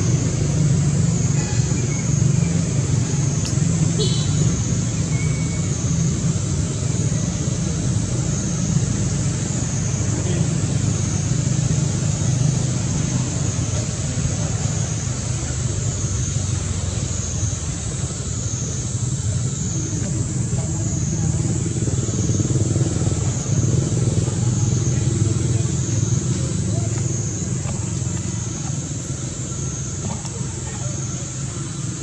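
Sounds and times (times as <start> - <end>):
continuous low rumble: 0.0 - 32.0
high steady buzz: 0.0 - 32.0.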